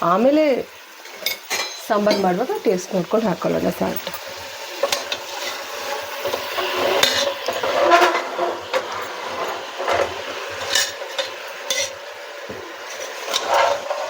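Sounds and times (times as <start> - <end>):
food frying in a pan: 0.0 - 14.0.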